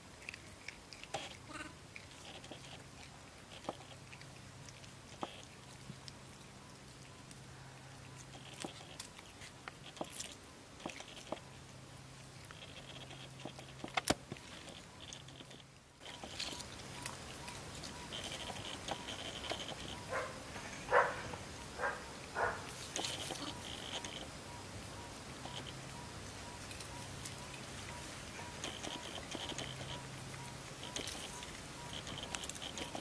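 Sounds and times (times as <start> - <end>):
monkeys chewing and nibbling: 0.0 - 33.0.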